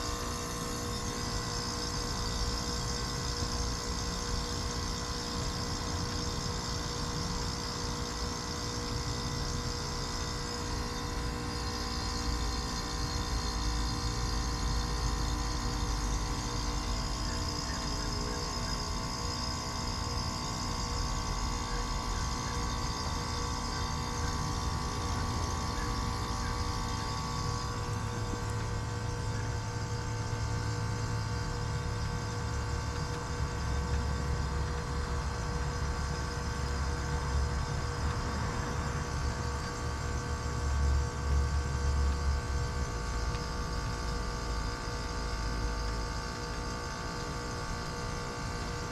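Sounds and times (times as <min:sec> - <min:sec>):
heat pump humming: 0:00.0 - 0:48.9.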